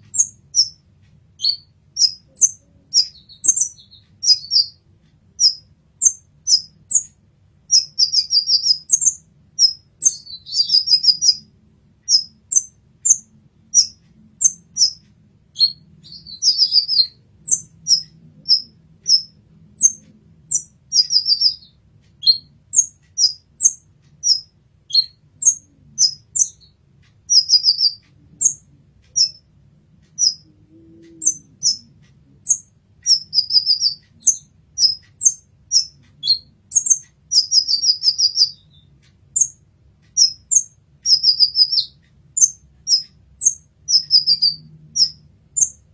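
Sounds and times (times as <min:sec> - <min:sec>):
bird twittering trill: 0:00.0 - 0:29.5, 0:30.1 - 0:45.9
bird chirping high-pitched: 0:00.0 - 0:45.9.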